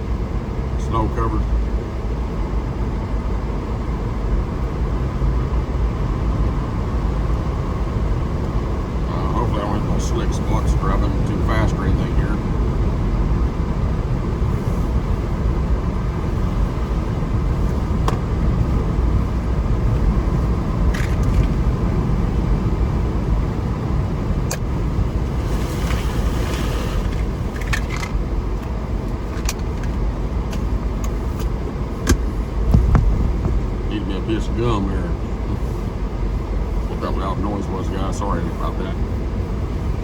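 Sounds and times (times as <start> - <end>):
vehicle rumbling on snowy road: 0.0 - 40.0.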